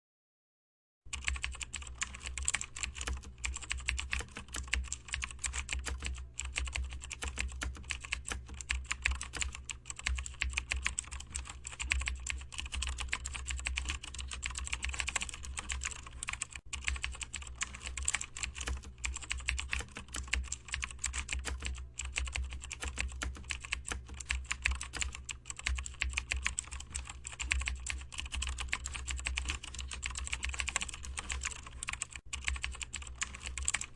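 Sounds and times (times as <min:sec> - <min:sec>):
fast typing on keyboard: 0:01.1 - 0:33.9.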